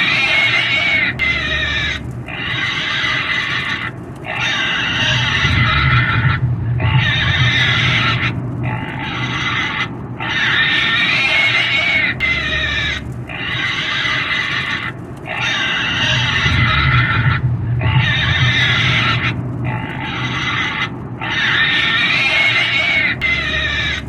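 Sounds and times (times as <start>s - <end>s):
pig squealing: 0.0s - 24.0s.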